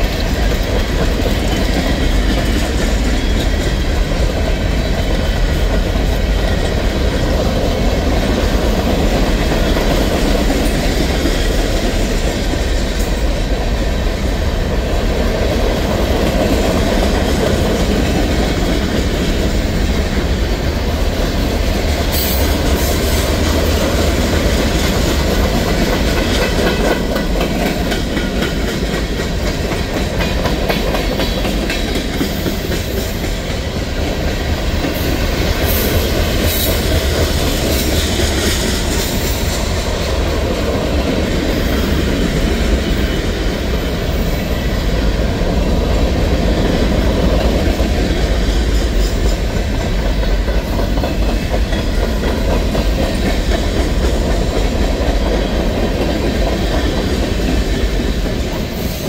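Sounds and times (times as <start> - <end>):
freight train wheels rolling on rails: 0.0 - 59.0.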